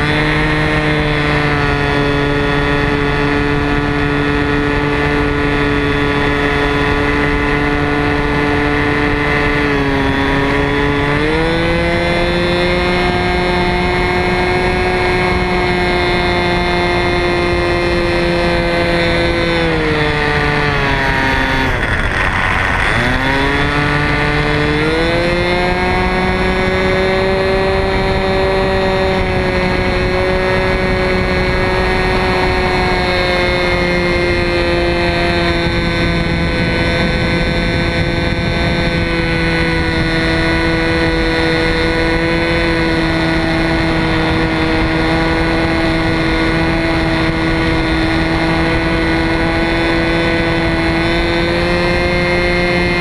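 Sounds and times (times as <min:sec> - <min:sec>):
model plane engine running: 0:00.0 - 0:53.0.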